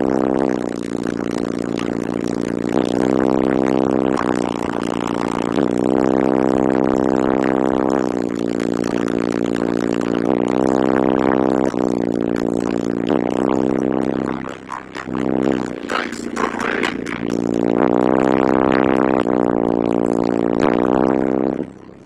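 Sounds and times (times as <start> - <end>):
subwoofer playing deep bass notes: 0.0 - 22.0.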